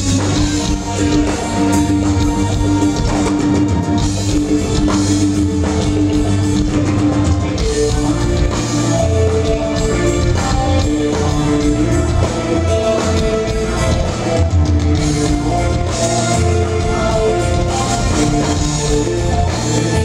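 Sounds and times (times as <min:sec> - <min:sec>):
drum kit: 0:00.0 - 0:20.0
guitar: 0:00.0 - 0:20.0
rock band playing: 0:00.0 - 0:20.0.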